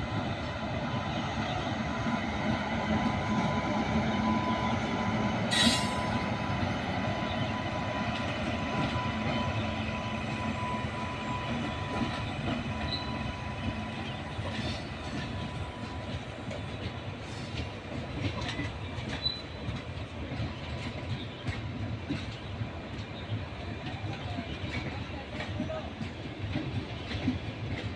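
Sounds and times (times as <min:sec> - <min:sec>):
passenger train rumbling: 0:00.0 - 0:27.9.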